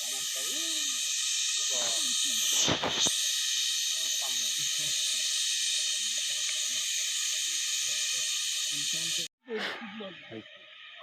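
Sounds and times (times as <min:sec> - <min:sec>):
flowing water hissing: 0:00.0 - 0:09.3.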